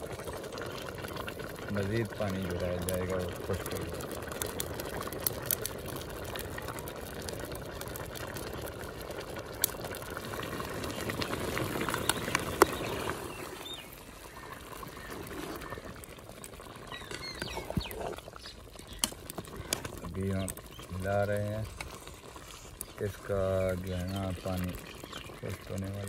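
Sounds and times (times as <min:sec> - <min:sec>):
pot boiling and bubbling: 0:00.0 - 0:26.0.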